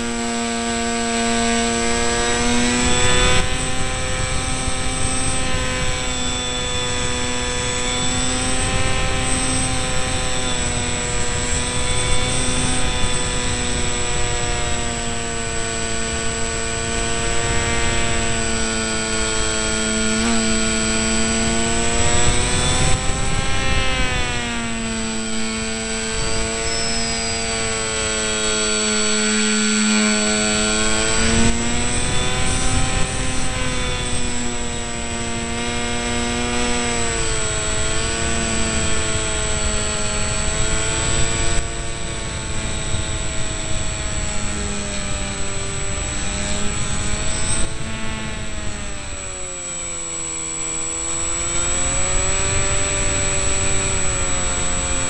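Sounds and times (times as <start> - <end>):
electric motor and propeller whine: 0.0 - 55.0
wind rushing on microphone: 0.0 - 55.0.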